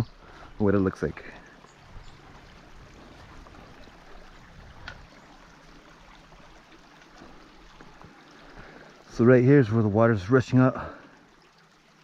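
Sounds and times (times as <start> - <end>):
spring water rushing and bubbling: 0.0 - 12.0.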